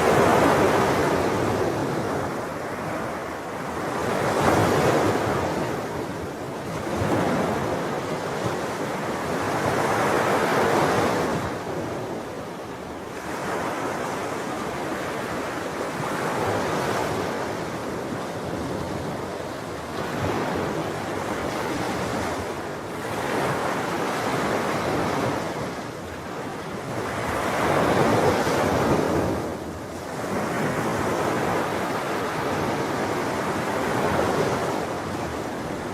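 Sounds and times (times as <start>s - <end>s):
sea waves breaking on shore: 0.0s - 35.9s.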